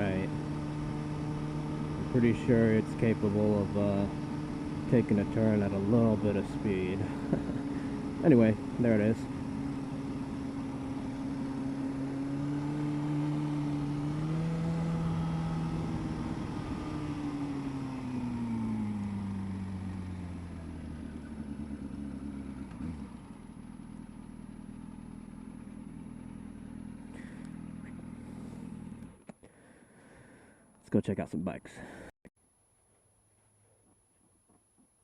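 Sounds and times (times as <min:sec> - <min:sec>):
motorcycle engine slowing to idle: 0:00.0 - 0:30.1.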